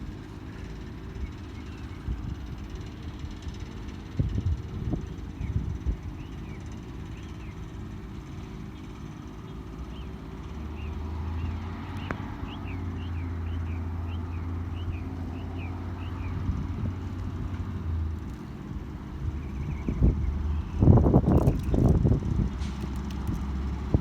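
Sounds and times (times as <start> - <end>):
diesel engine humming: 0.0 - 24.0.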